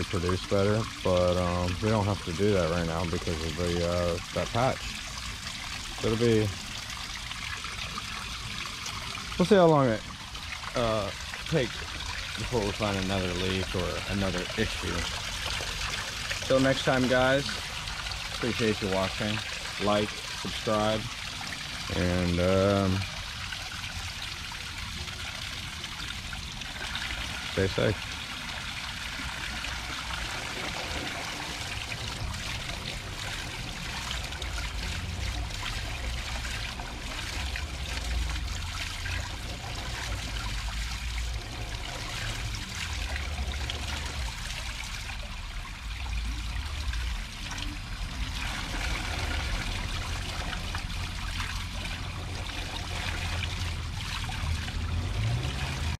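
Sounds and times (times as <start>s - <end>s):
water trickling into a pond: 0.0s - 56.0s.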